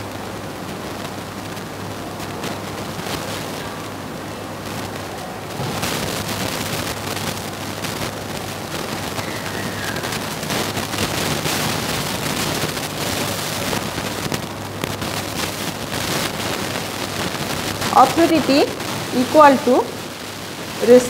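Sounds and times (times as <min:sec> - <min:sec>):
crackling background noise: 0:00.0 - 0:21.0.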